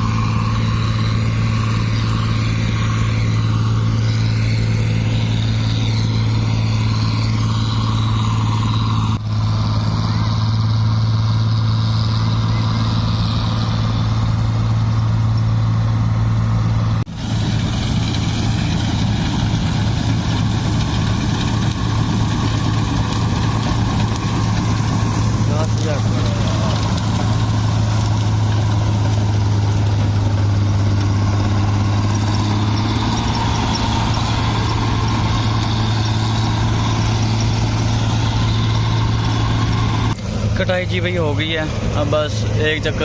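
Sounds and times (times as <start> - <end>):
combine harvester engine drone: 0.0 - 43.0.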